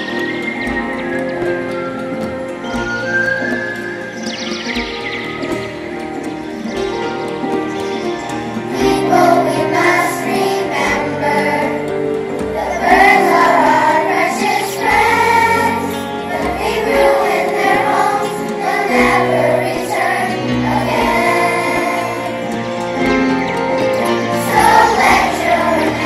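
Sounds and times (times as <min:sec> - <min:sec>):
children's choir singing: 0:00.0 - 0:26.0
instrumental accompaniment: 0:00.0 - 0:26.0.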